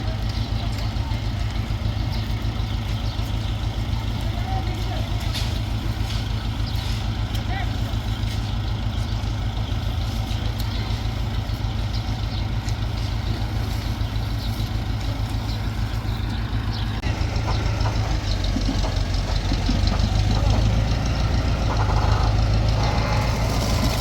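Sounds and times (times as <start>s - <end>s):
machine engine humming: 0.0s - 24.0s.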